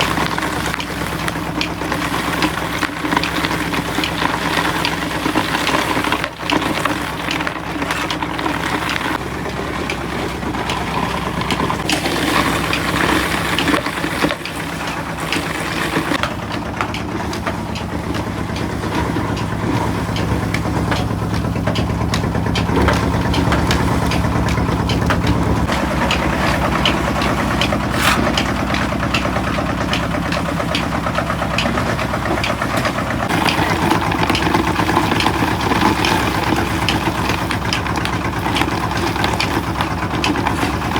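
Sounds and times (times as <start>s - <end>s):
engine-driven machinery running: 0.0s - 40.9s.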